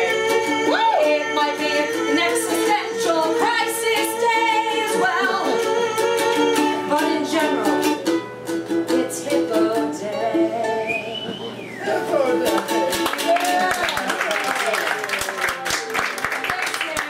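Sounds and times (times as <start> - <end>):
person singing: 0.0 - 13.9
ukulele strumming: 0.0 - 14.0.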